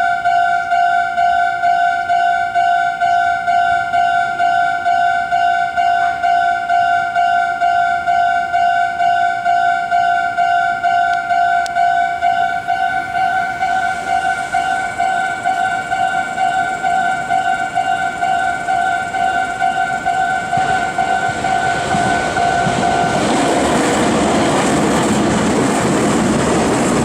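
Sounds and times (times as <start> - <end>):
approaching train: 0.0 - 27.0
level-crossing warning bell: 0.0 - 27.0.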